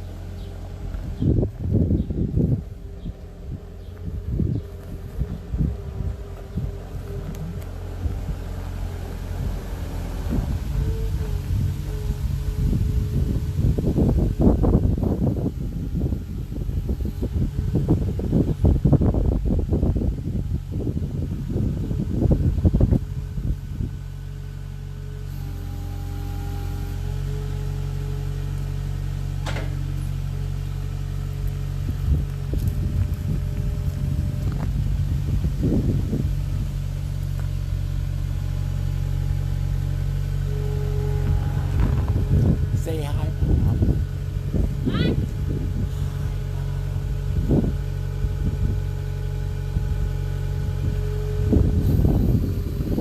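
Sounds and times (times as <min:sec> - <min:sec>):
skid steer engine running: 0:00.0 - 0:53.0.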